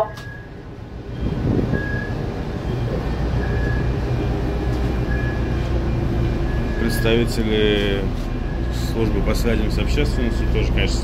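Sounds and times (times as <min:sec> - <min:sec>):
ship engines rumbling: 0:00.0 - 0:11.0.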